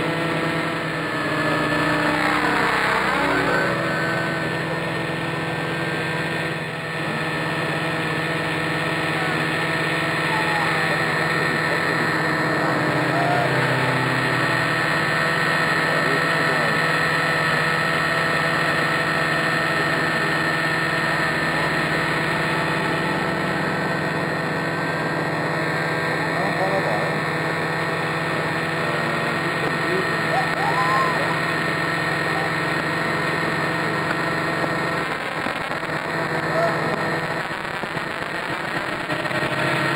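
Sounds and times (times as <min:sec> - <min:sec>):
model helicopter rotor hum: 0:00.0 - 0:39.9.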